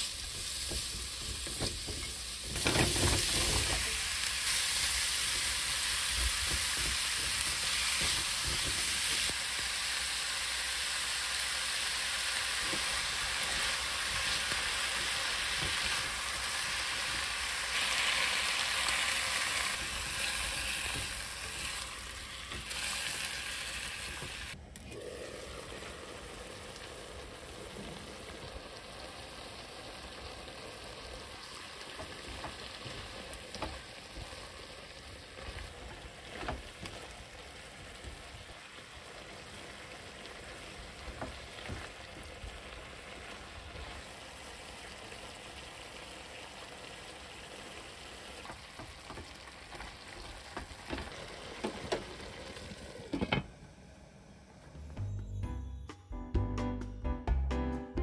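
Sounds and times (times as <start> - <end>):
vegetables sizzling in a pan: 0.0 - 53.2.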